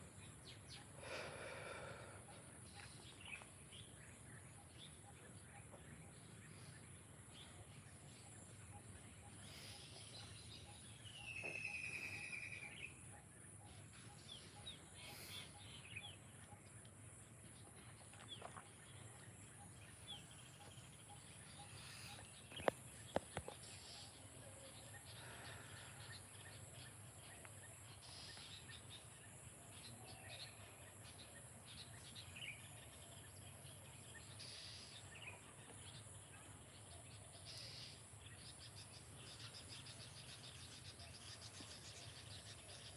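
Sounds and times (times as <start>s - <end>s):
bird chirps: 2.2s - 42.9s.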